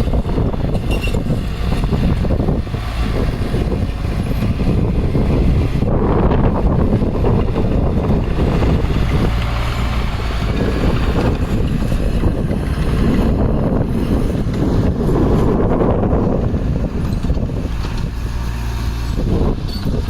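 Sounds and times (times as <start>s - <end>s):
loud diesel engine running: 0.0s - 20.0s.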